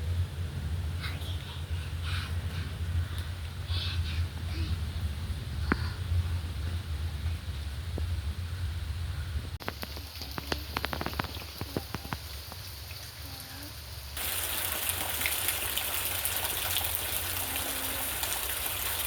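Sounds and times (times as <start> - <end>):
rain drops ticking: 0.0 - 8.9, 9.5 - 19.0
heavy rain hiss: 0.0 - 19.0.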